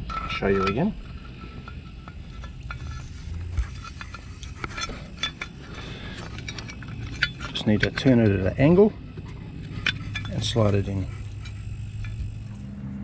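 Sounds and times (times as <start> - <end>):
light metallic clinks: 0.1 - 12.7.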